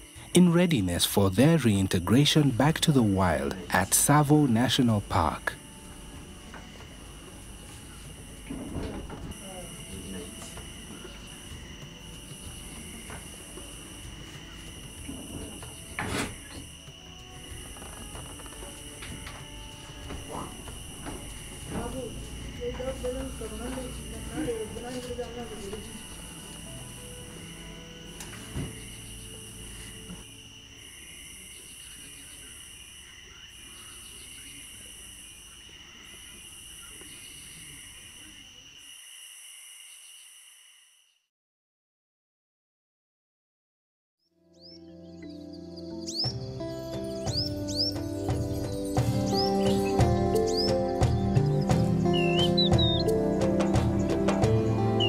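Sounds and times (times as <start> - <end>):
crickets trilling: 0.0 - 41.3, 44.5 - 55.0
night insects chirping: 0.0 - 41.3, 44.4 - 55.0.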